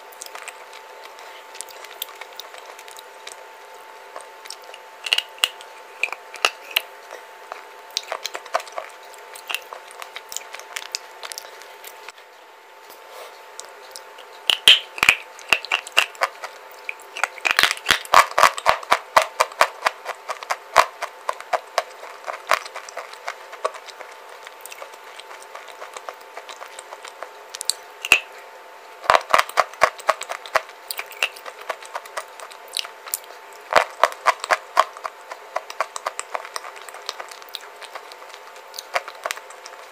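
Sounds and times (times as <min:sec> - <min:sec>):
crunching and chewing: 0:00.0 - 0:39.9
faint steady hum: 0:00.0 - 0:39.9.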